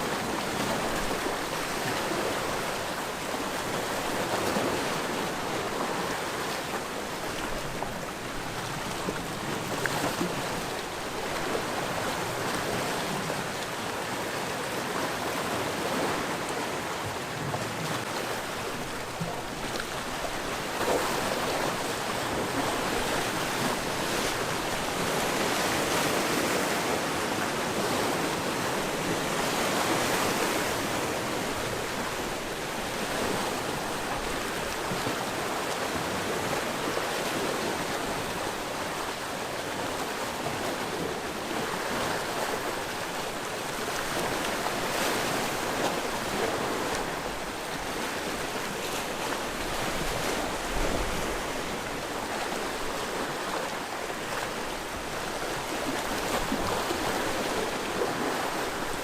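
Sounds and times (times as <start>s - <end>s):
waves on rocky shore: 0.0s - 59.0s.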